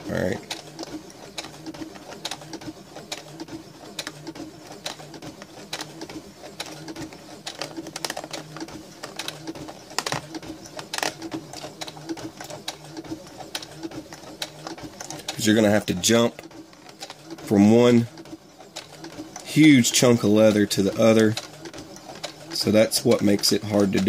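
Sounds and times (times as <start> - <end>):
sewing machine motor humming: 0.0 - 24.0.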